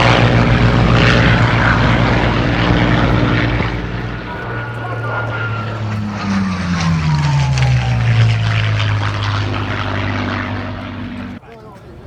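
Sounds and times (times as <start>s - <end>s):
propeller aircraft flying past: 0.0s - 11.4s.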